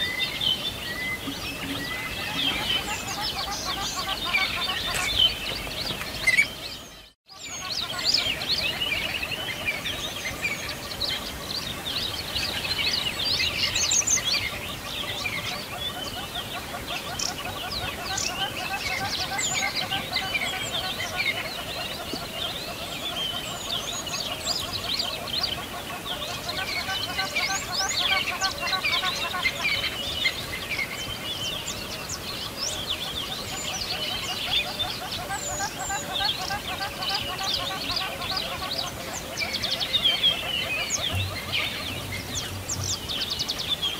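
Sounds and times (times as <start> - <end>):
flock of small birds chirping: 0.0 - 43.9.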